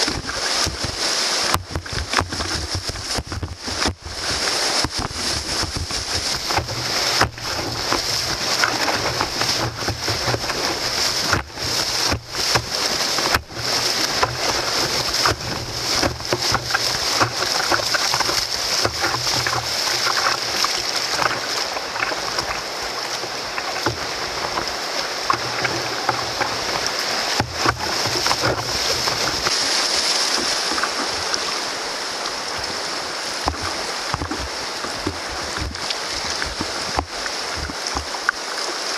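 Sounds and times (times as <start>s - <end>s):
rapids rushing and splashing: 0.0s - 38.9s.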